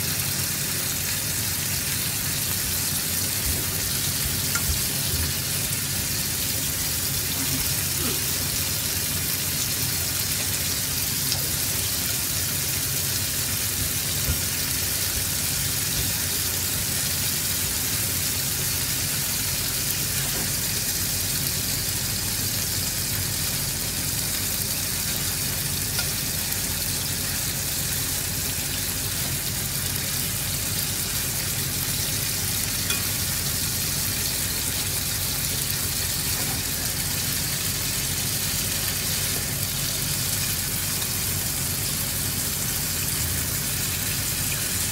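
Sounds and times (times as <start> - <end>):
meat sizzling in a pan: 0.0 - 44.9.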